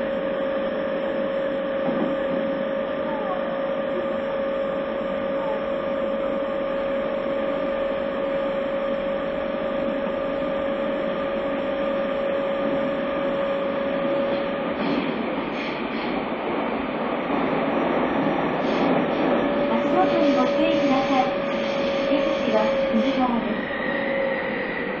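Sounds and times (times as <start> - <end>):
constant hum: 0.0 - 16.1, 18.7 - 25.0
subway train running rumble: 0.0 - 25.0.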